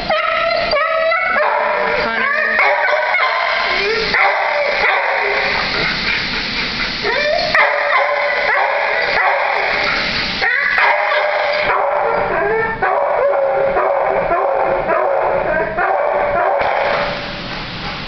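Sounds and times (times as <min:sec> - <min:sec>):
dogs barking and yipping: 0:00.0 - 0:17.2.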